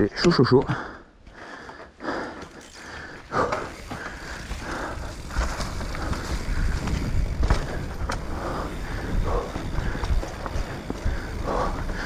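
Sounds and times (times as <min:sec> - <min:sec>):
bike tyres rolling on dirt: 0:00.8 - 0:12.0
bike rattling and scuffing: 0:01.7 - 0:12.0.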